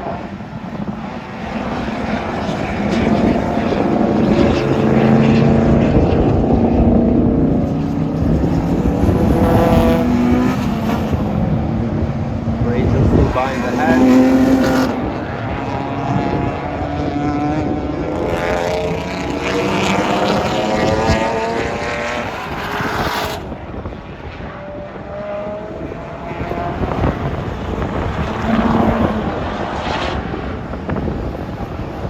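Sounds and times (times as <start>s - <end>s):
race car engines accelerating: 0.0s - 32.0s.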